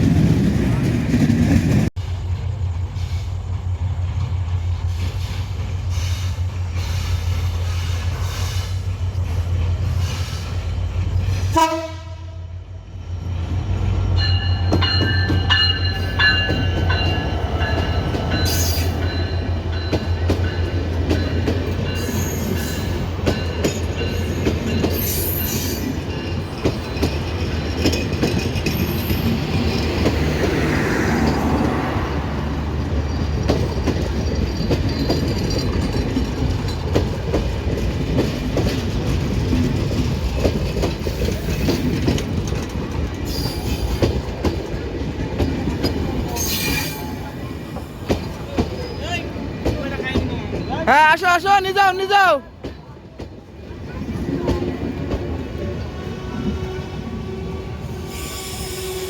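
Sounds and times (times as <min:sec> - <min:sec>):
diesel train passing: 0:00.0 - 0:59.0.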